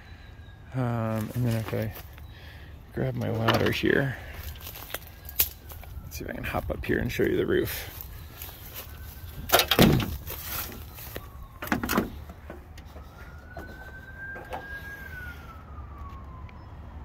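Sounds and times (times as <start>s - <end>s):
distant siren wailing: 0.0s - 17.0s.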